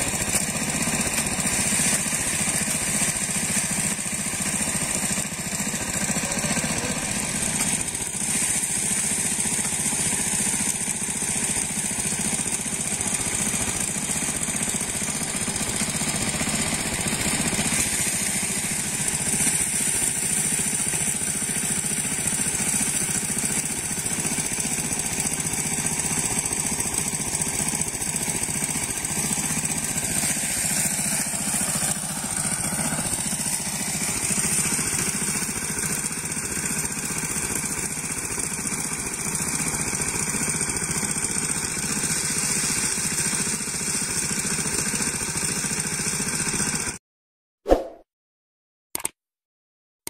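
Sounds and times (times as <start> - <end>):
small engine running steadily: 0.0 - 47.0.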